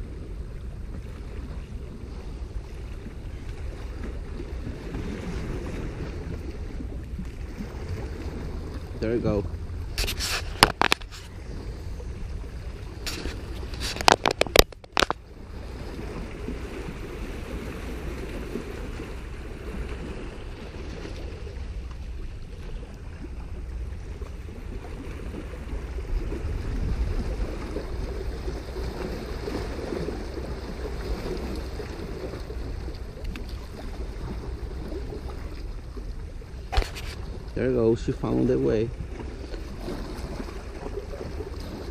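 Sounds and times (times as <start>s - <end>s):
waves lapping against rocks: 0.0s - 41.9s
wind on microphone: 0.0s - 41.9s.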